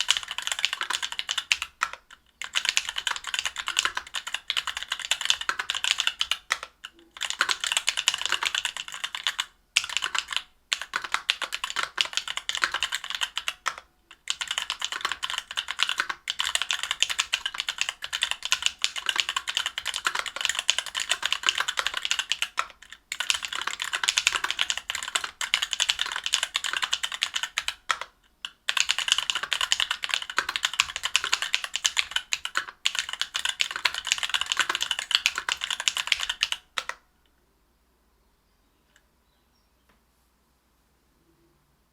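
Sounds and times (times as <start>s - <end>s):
mechanical keyboard typing: 0.0s - 37.0s.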